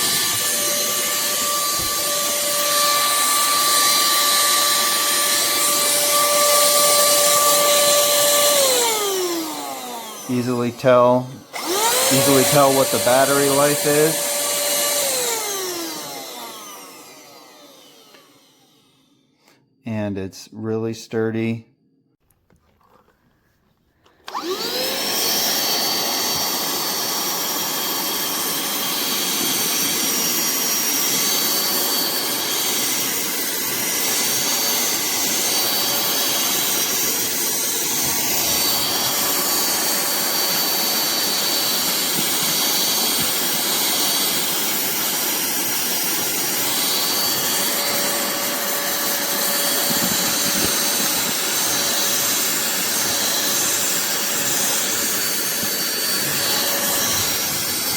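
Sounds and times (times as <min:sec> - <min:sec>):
handheld vacuum cleaner whining: 0:00.0 - 0:19.6, 0:23.9 - 0:57.9.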